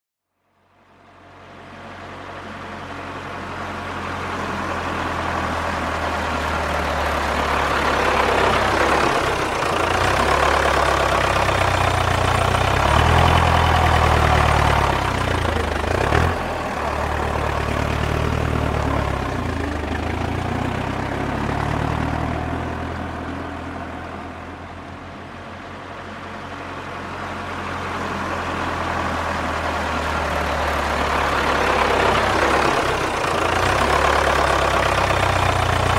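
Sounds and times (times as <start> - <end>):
tractor engine running: 0.9 - 35.9.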